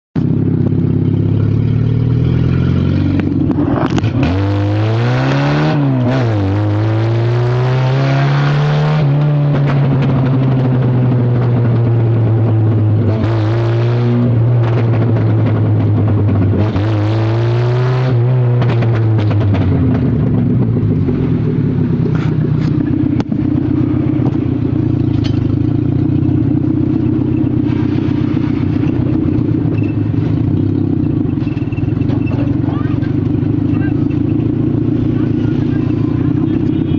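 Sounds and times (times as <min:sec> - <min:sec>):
vehicle engine revving and idling: 0:00.2 - 0:36.9.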